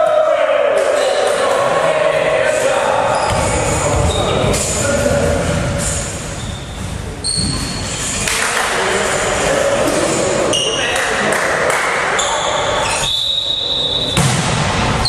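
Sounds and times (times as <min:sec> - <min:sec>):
indistinct voices: 0:00.0 - 0:15.0.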